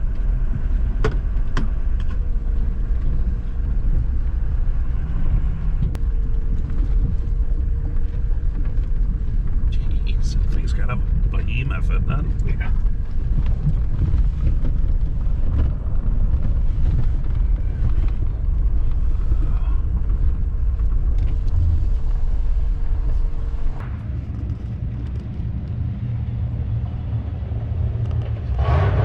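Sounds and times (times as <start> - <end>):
large engine rumbling: 0.0 - 29.0.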